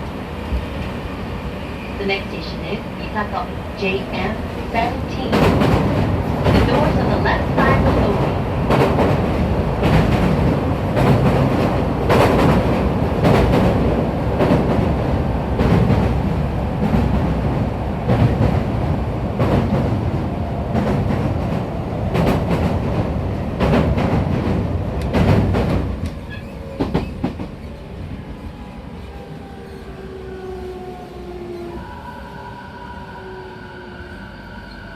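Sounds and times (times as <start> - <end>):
train running noise: 0.0 - 34.9.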